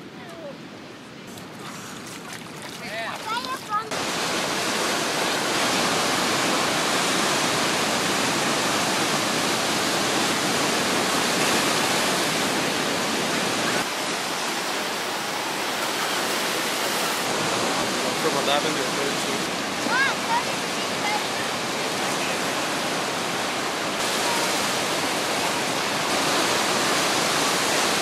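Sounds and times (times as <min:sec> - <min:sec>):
ocean surf breaking: 0:01.6 - 0:28.0.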